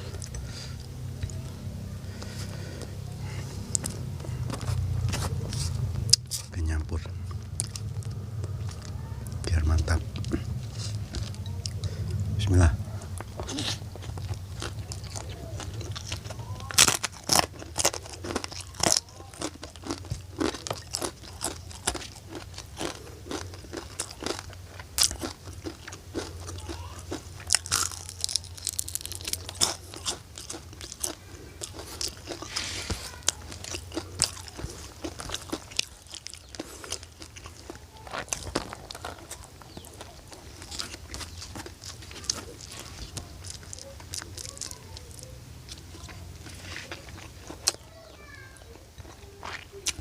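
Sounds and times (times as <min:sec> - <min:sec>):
person eating crunchy food: 0:00.0 - 0:50.0.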